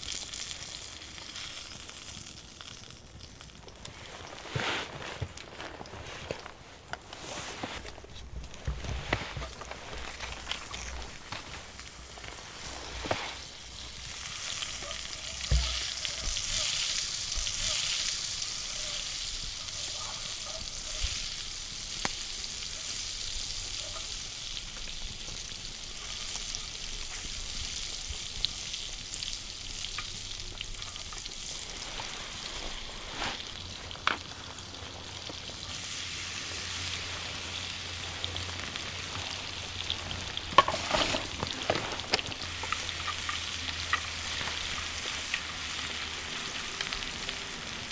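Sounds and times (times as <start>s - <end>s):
sauce sizzling in a hot pan: 0.0s - 4.2s, 10.6s - 47.9s.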